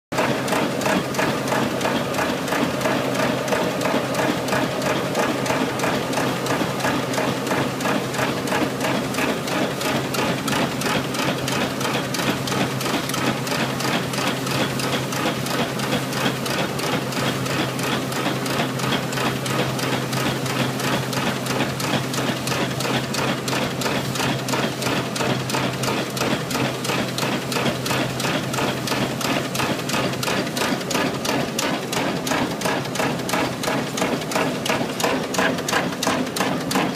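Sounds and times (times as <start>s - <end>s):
steam engine mechanical beat: 0.1s - 36.9s.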